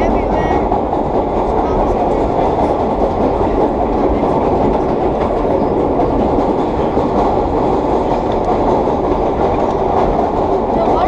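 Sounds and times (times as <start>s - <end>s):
subway train rumbling in tunnel: 0.0s - 11.0s.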